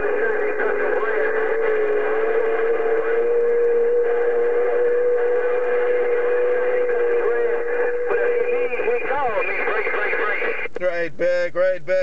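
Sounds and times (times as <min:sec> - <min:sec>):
whistle-like radio tone: 0:00.0 - 0:10.7
radio static: 0:00.0 - 0:12.0.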